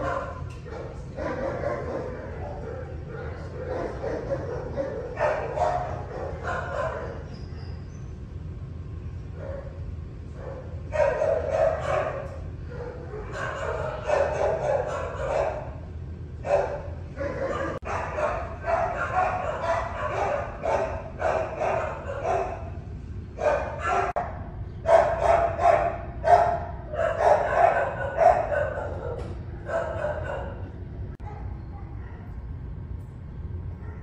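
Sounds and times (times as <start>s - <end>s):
dogs barking: 0.0s - 8.0s, 9.3s - 32.4s, 33.8s - 34.0s.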